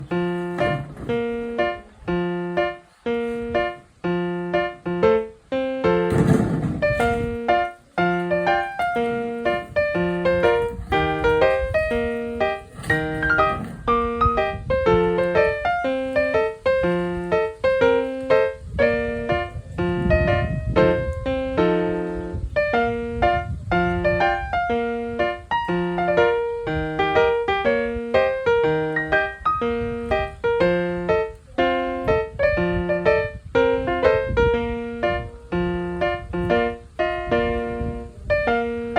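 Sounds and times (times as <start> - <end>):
bouncy piano music: 0.0 - 38.9.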